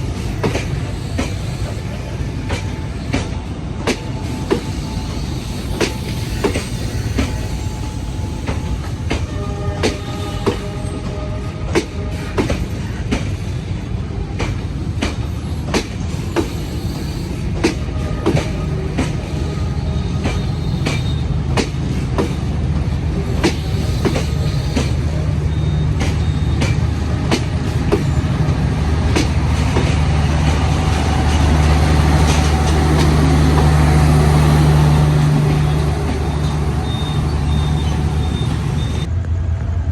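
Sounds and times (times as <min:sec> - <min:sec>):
train wheels clicking over rail joints: 0:00.0 - 0:10.8, 0:14.4 - 0:39.1.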